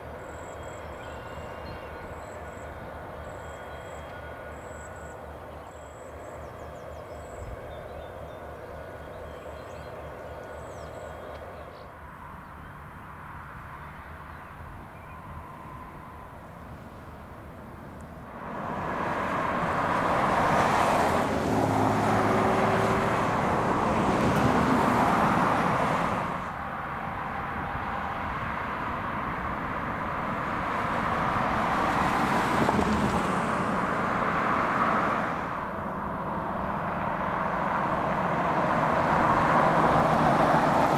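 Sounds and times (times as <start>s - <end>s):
diesel locomotive approaching: 0.0s - 40.9s
freight train rolling past: 0.0s - 40.9s
road traffic passing: 0.0s - 40.9s.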